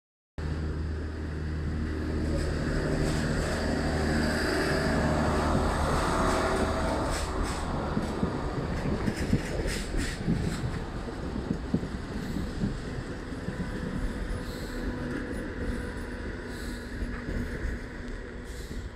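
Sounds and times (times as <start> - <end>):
train humming past: 0.4 - 18.9
wheels clicking on track: 1.6 - 18.9.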